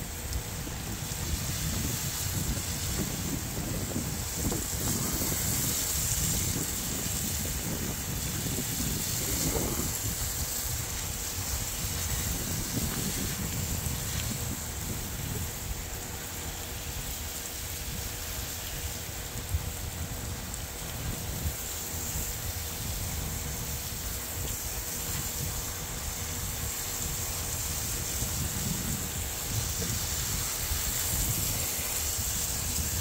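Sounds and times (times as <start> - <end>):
water spray hissing: 0.0 - 33.0
wind rumbling on microphone: 0.0 - 33.0.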